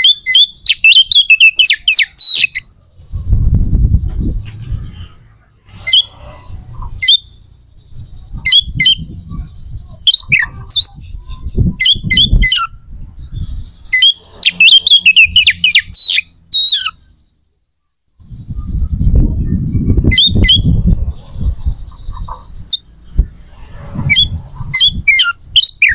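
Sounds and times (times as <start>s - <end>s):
bird squawking and chirping: 0.0s - 17.2s, 20.0s - 25.9s.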